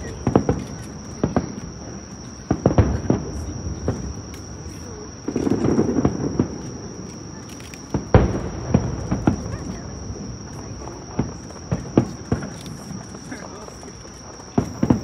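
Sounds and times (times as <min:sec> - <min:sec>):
firework bangs: 0:00.0 - 0:15.0
steady high-pitched whine: 0:00.0 - 0:15.0.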